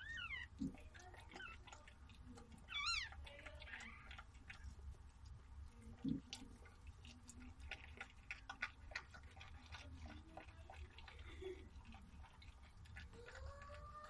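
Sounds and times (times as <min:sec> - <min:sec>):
dog licking wet clicks: 0:00.0 - 0:14.0.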